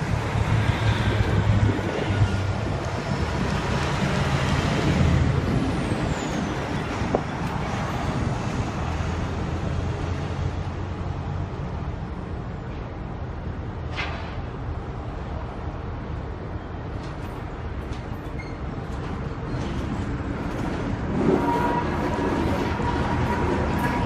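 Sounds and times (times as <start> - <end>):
diesel locomotive rumble: 0.0 - 24.0.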